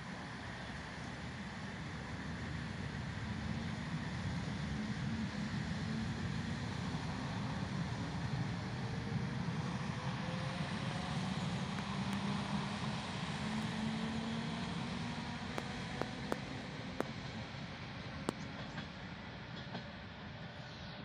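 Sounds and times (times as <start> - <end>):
low rumble of running train: 0.0 - 21.0.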